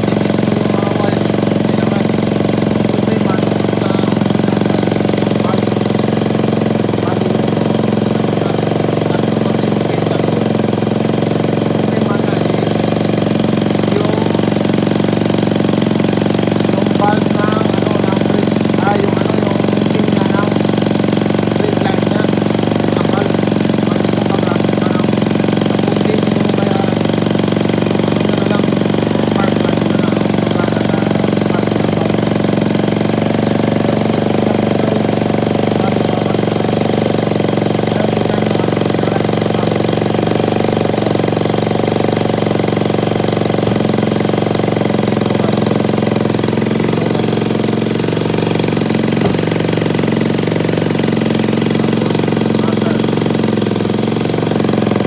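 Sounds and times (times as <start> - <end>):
scooter engine idling: 0.0 - 55.0.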